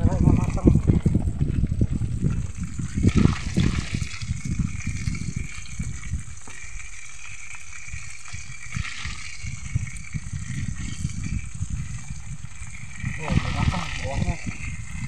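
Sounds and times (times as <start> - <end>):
fish sizzling in hot oil: 0.2 - 15.0.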